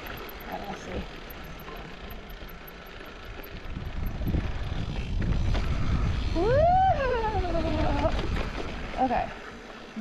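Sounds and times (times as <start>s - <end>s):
wind rumbling on microphone: 0.0s - 9.5s
mountain bike on dirt trail: 0.0s - 10.0s.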